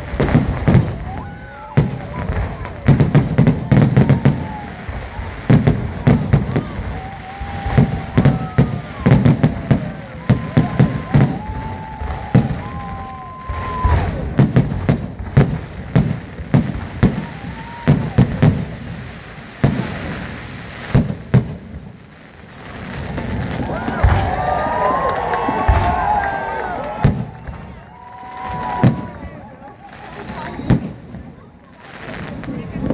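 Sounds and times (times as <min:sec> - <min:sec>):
crowd voices and cheering: 0:00.0 - 0:19.0, 0:22.6 - 0:32.9
fireworks bangs and crackles: 0:00.0 - 0:32.9.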